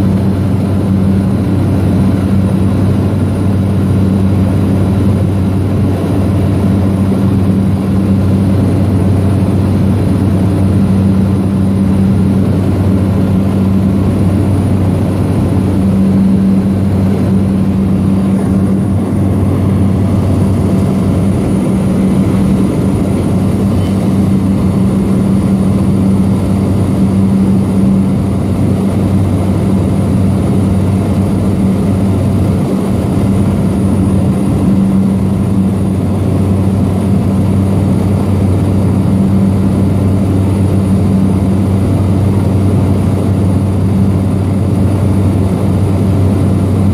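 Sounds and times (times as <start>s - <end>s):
propeller engine drone in cabin: 0.0s - 46.9s.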